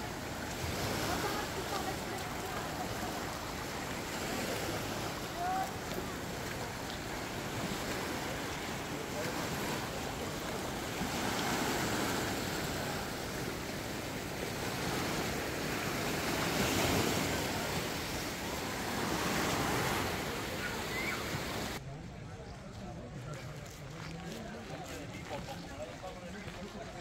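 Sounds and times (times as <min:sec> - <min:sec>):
waves washing against rocks: 0:00.0 - 0:21.8.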